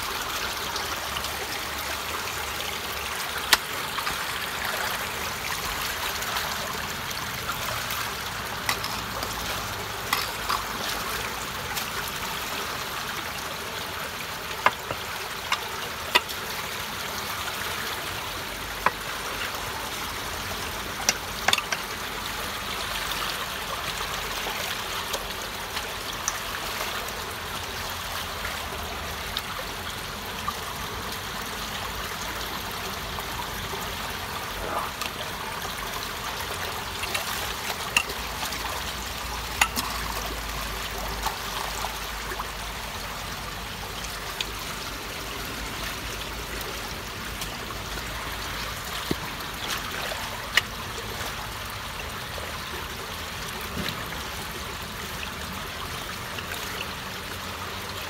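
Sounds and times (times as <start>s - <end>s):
water rushing into culvert: 0.0s - 58.0s.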